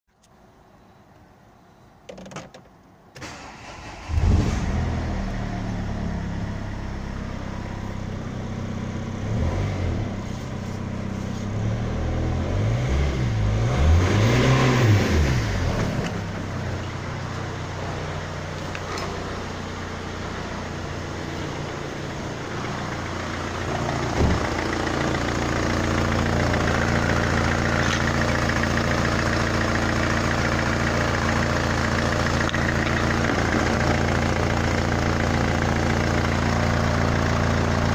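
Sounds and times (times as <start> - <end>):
diesel engine idling and revving: 3.2 - 37.9.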